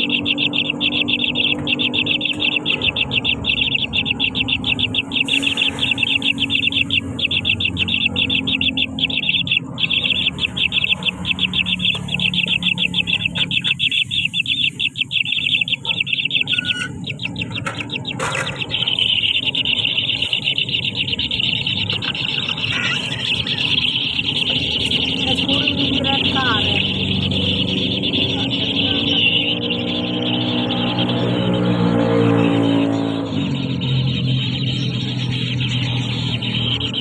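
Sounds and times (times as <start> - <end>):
nestling birds chirping: 0.0 - 37.0.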